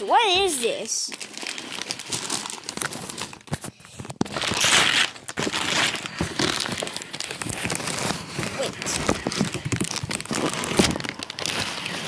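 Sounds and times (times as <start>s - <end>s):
wrapping paper crumpling and rustling: 0.2s - 12.0s.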